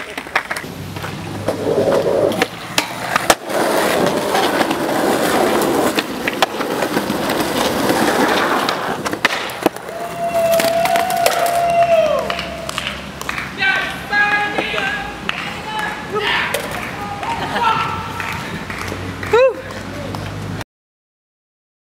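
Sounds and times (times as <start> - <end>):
skateboard clacks: 0.0 - 20.5
skateboard wheels rolling on stone: 0.0 - 20.6.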